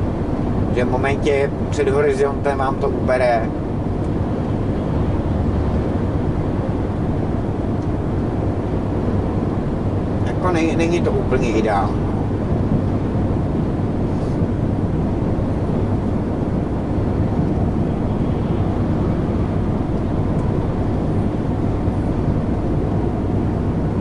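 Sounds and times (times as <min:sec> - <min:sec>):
truck engine droning: 0:00.0 - 0:24.0.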